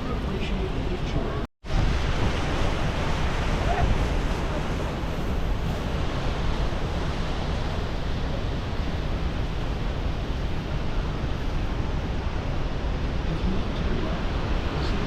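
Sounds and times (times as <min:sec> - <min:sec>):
waterfall roaring: 0:00.0 - 0:15.0
wind buffeting microphone: 0:00.0 - 0:15.0.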